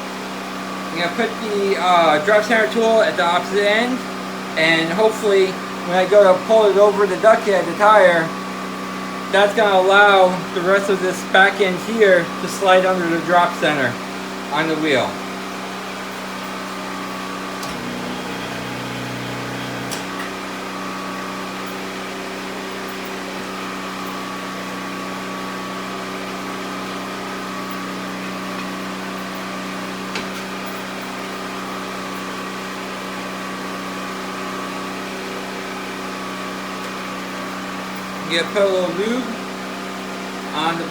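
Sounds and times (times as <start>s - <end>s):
tire changer motor hum: 0.0s - 40.9s
workshop machinery hum: 0.0s - 40.9s.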